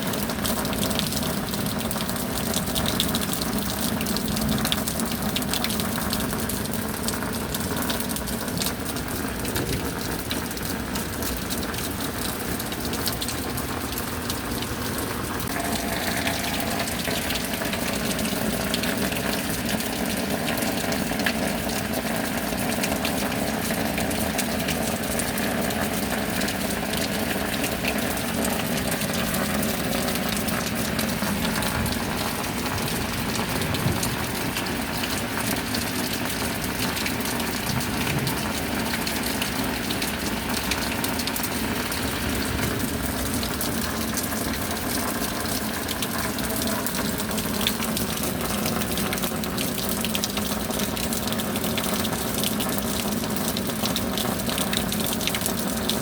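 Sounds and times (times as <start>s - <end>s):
gushing water: 0.0s - 56.0s
heavy rain: 0.0s - 56.0s.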